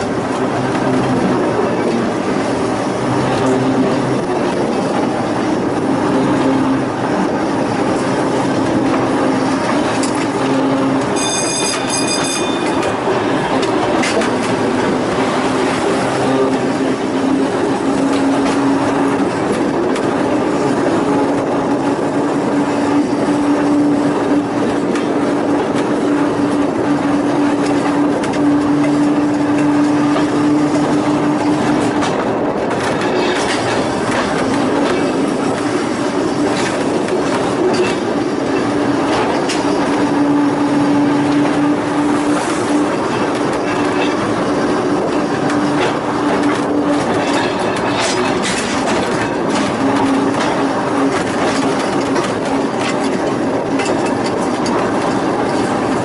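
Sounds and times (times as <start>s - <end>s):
wheels rattling on rails: 0.0s - 56.0s.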